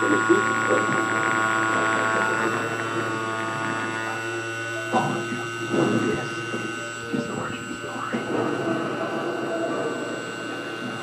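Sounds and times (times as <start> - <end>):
router machine electric hum: 0.0 - 11.0.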